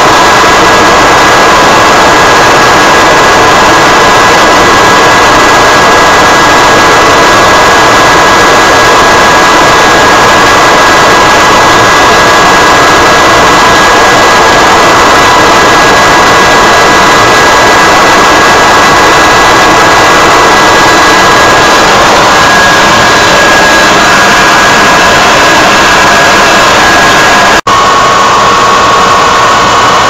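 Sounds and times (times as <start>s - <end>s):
jet aircraft rushing and whining: 0.0s - 30.0s.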